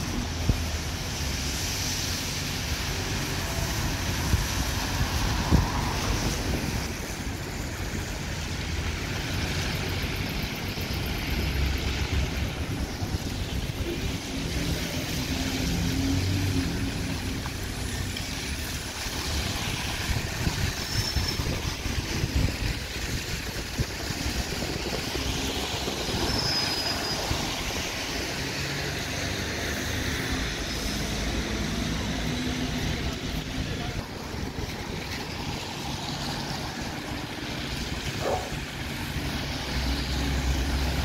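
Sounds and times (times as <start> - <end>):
bus engines pulling away: 0.0 - 41.0
busy traffic: 0.0 - 41.0
tyres hissing on wet road: 0.0 - 41.0.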